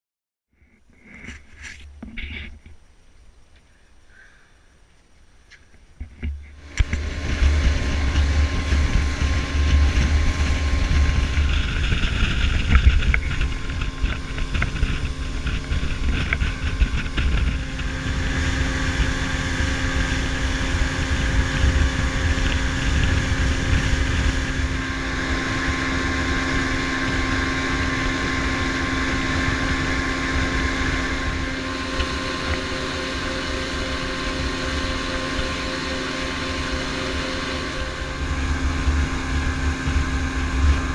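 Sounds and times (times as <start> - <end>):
outboard motor running: 6.0 - 40.9
wind buffeting microphone: 6.1 - 40.9
boat wake rushing: 6.5 - 40.9.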